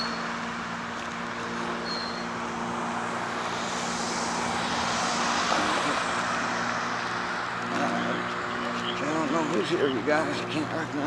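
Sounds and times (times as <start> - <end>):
rushing noise: 0.0 - 10.1
vehicle engine hum: 0.0 - 11.0.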